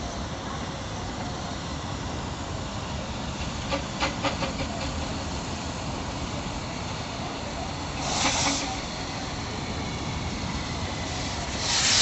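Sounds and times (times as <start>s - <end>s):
miniature train running: 0.0s - 12.0s.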